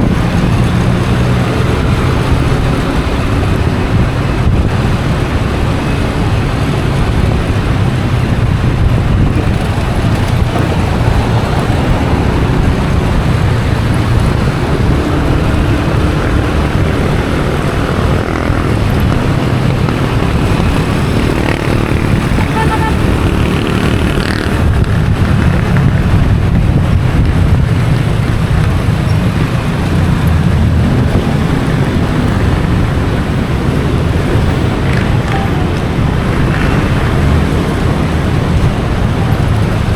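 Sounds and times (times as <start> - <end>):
city traffic: 0.0 - 39.9
motorcycle engine running: 0.0 - 39.9
road noise: 0.0 - 39.9.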